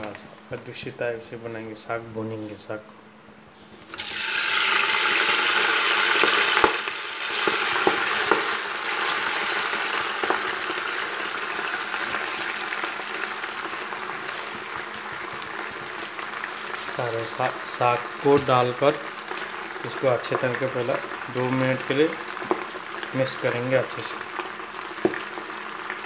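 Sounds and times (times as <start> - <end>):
greens sizzling in hot oil: 3.9 - 26.0.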